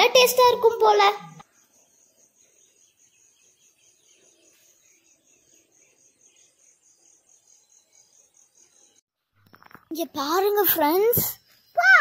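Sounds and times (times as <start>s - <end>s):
faint insect chirping: 1.4s - 12.0s.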